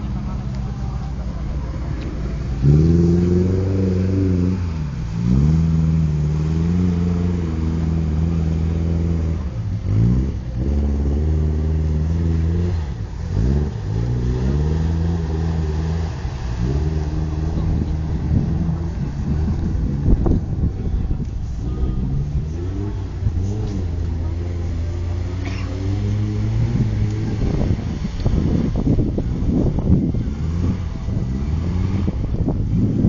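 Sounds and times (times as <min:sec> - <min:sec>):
vehicle engine revving hard: 0:01.8 - 0:20.5, 0:21.6 - 0:33.0.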